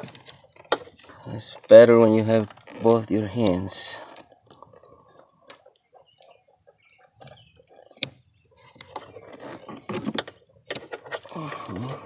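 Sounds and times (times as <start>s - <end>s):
light clicks and rustles: 0.0s - 12.0s.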